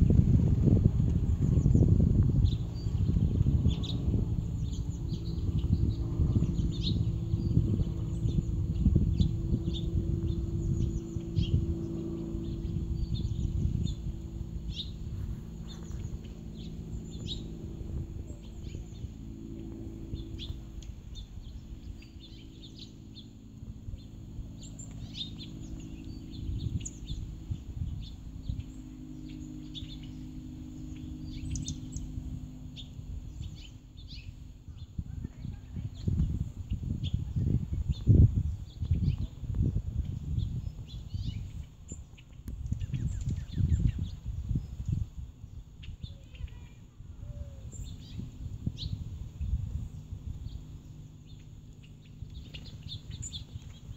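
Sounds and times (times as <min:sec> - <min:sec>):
low steady hum: 0:00.0 - 0:53.9
songbirds chirping: 0:00.0 - 0:53.9.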